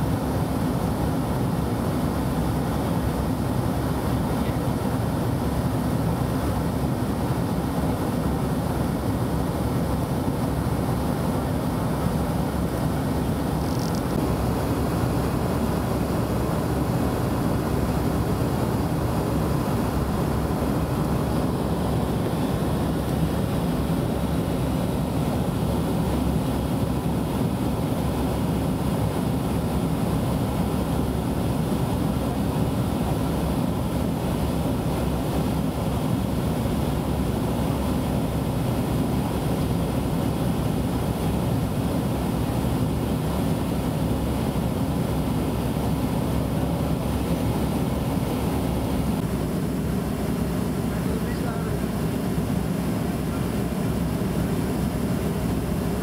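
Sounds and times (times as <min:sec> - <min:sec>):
airflow rush: 0:00.0 - 0:56.0
jet engine drone in cabin: 0:00.0 - 0:56.0.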